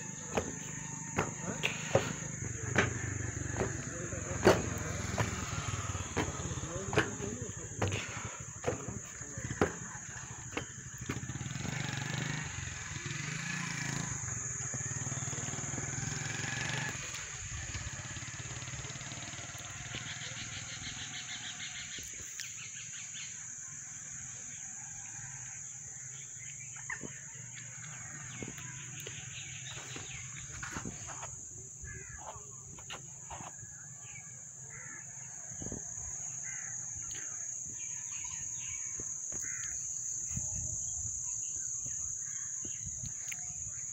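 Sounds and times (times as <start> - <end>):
birds chirping: 0.0 - 25.4, 26.0 - 43.9
insects chirring: 0.0 - 43.9.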